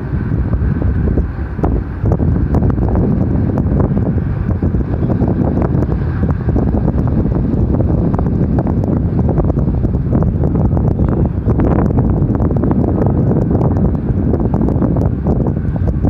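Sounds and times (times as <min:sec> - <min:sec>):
low rumble: 0:00.0 - 0:16.0
wind buffeting microphone: 0:00.0 - 0:16.0.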